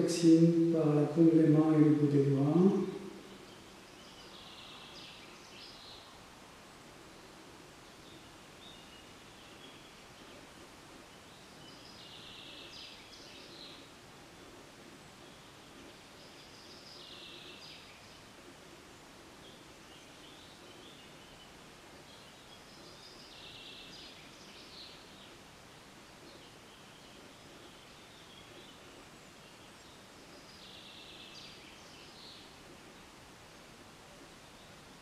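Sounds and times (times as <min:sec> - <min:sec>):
soft higher hiss: 0:00.0 - 0:35.0.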